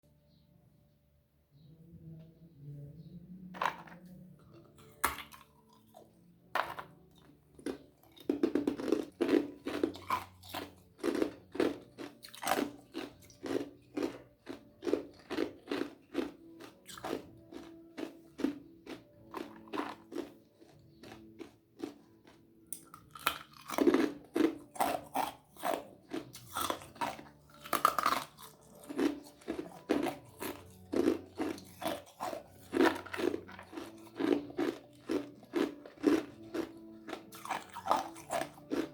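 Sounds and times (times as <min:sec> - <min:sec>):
ice crunching in mouth: 0:04.7 - 0:38.9.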